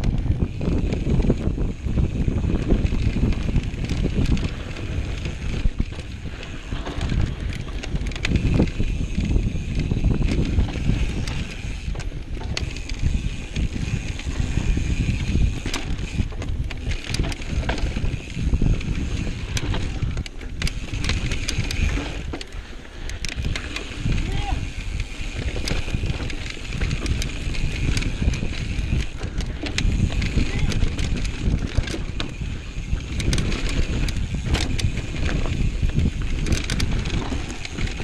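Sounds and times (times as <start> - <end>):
bike clicking and rattling: 0.0 - 38.0
wind buffeting microphone: 0.0 - 38.0.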